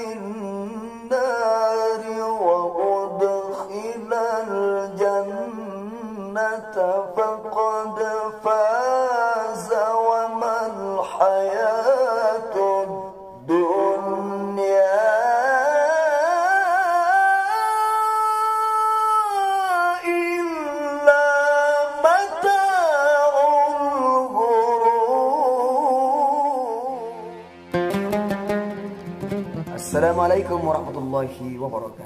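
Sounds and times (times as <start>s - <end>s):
man reciting melodically: 0.0s - 27.6s, 29.6s - 32.0s.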